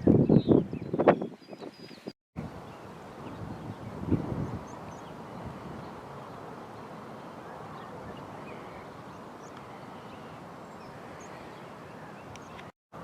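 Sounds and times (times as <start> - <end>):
wind on microphone: 0.0 - 12.7.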